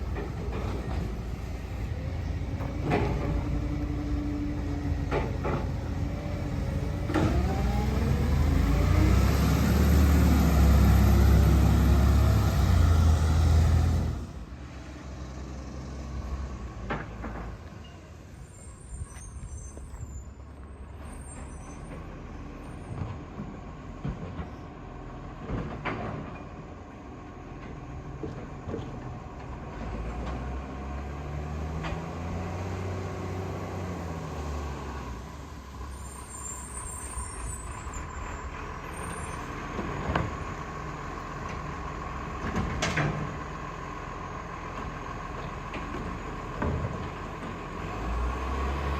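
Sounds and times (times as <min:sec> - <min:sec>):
garbage truck diesel engine: 0:00.0 - 0:48.9.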